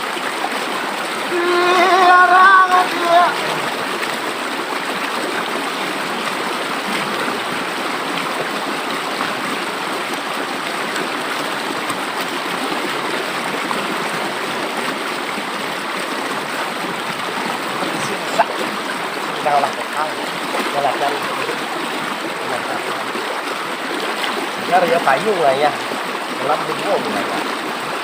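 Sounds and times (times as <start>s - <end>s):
river water flowing: 0.0s - 28.0s.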